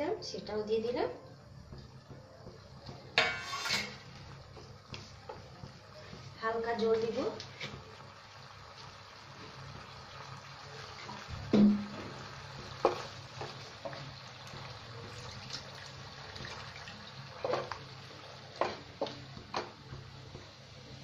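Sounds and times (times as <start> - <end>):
gravy sizzling: 0.0 - 21.0.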